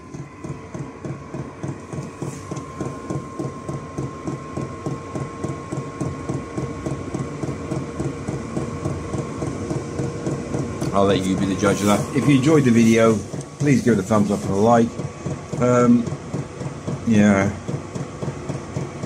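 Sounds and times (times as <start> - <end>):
fuel pump ticking: 0.0 - 19.0
heater fan whining: 0.0 - 19.0.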